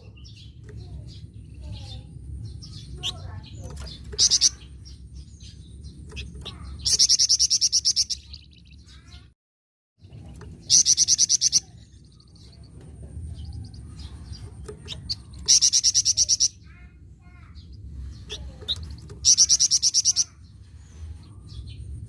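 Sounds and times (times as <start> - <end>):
songbird rapid chatter: 0.2 - 9.2, 10.0 - 21.8.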